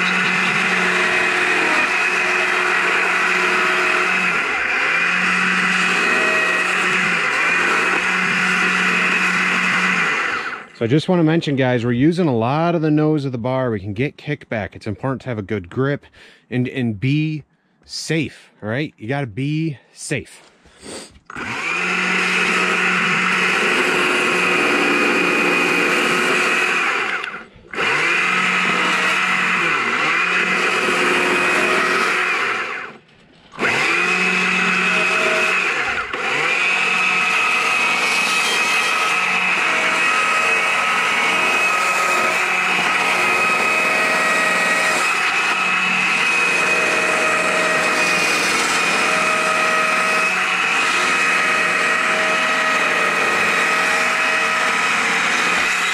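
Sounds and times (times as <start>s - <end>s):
chainsaw cutting log: 0.0s - 11.8s, 20.8s - 55.9s.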